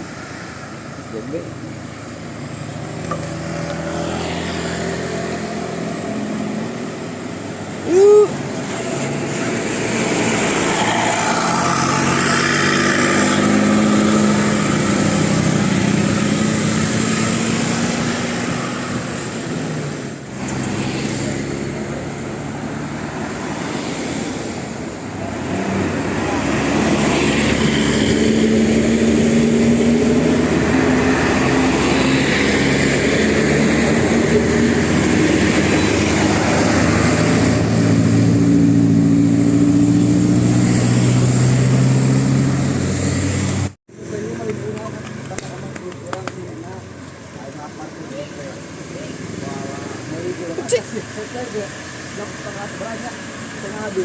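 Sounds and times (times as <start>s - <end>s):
bus engine under heavy load: 0.0s - 54.0s.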